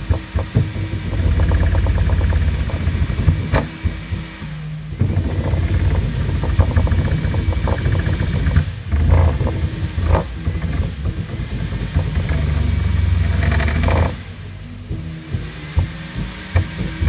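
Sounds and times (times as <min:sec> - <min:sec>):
stepper motors buzzing hum: 0:00.0 - 0:17.0.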